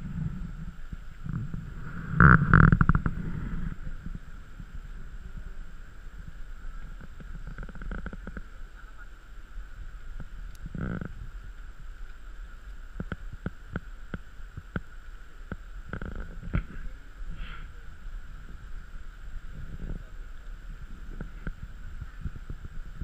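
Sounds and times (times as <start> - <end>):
muffled water rumble: 0.0 - 23.0.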